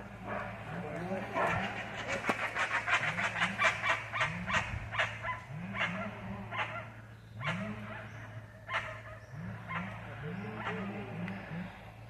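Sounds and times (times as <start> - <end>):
bird barking yelps: 0.0 - 12.0.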